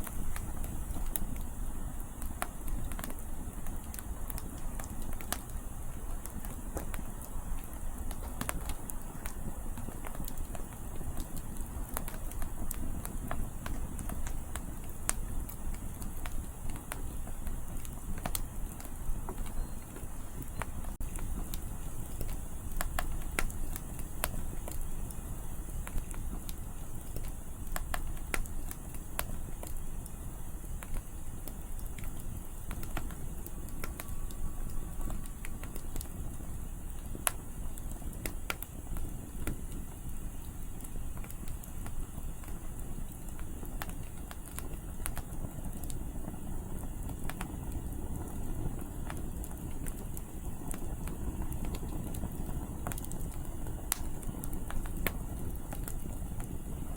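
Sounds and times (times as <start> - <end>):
low rumble of wind: 0.0 - 56.9
sharp pops of fire: 0.0 - 56.9
wood fire crackling: 0.0 - 56.9.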